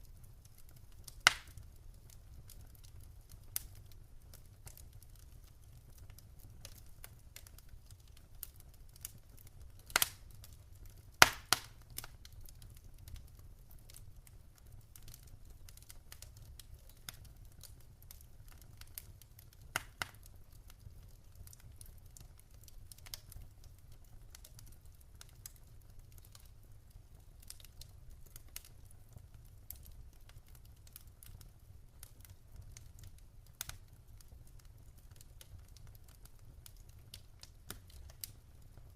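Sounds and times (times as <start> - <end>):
fire popping: 0.0 - 38.9
wood fire crackling: 0.0 - 38.9.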